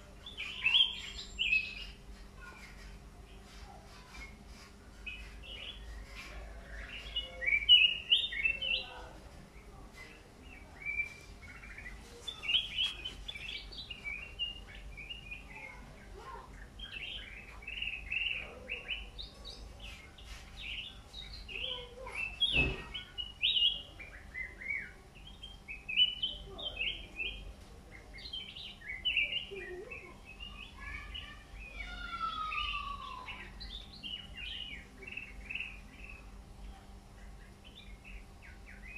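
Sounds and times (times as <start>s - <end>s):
songbird chirping and twittering: 0.0s - 38.9s.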